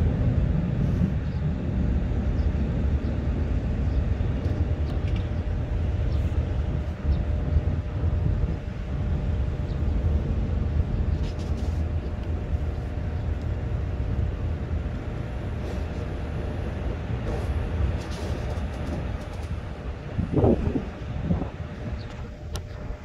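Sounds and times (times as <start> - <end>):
low rumbling outdoor noise: 0.0 - 23.0.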